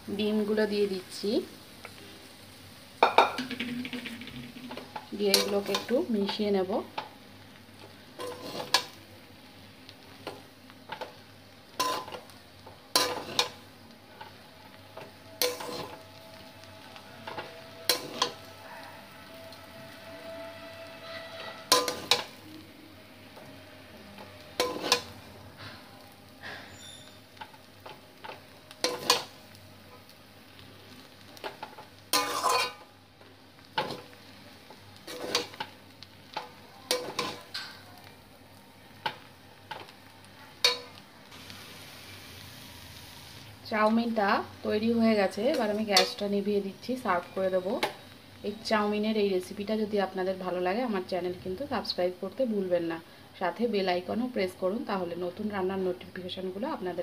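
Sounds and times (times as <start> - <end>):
faint sizzle of frying: 0.0 - 57.0.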